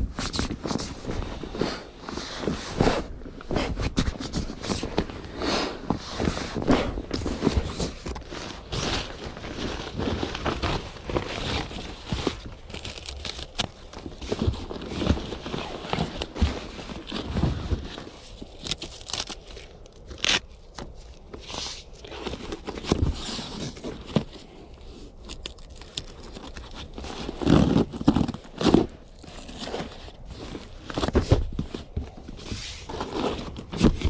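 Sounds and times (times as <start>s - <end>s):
fabric rustling and crinkling: 0.0s - 34.0s.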